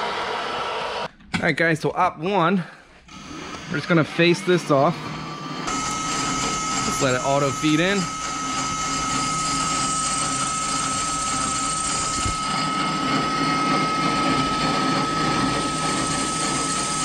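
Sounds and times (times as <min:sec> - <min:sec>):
lathe spindle whine: 0:03.1 - 0:17.0
metal cutting noise: 0:03.1 - 0:17.0.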